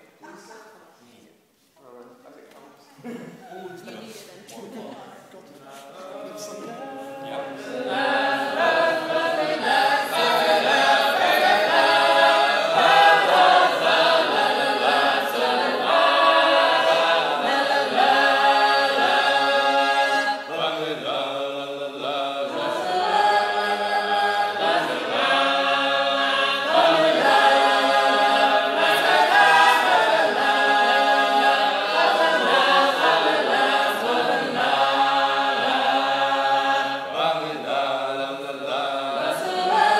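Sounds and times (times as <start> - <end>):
group singing unaccompanied harmony: 5.8 - 39.9.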